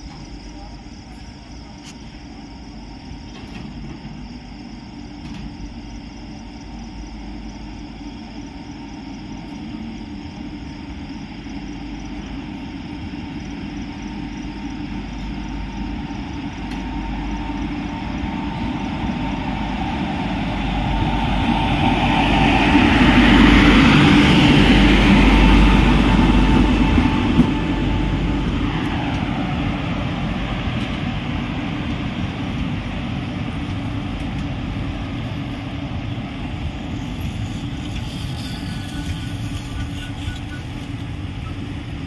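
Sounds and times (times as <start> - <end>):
locomotive low rumble: 0.0 - 42.0
train wheels rushing on rails: 0.0 - 42.0.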